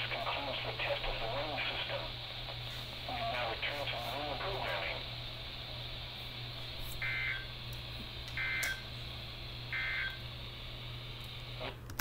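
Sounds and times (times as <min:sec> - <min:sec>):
radio hiss: 0:00.0 - 0:11.8.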